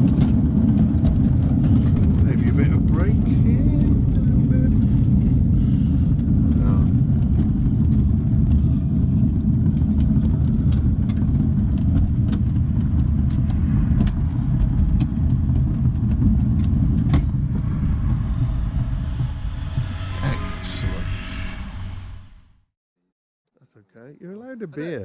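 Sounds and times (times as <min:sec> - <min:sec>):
train wheels rumbling on rails: 0:00.0 - 0:22.2.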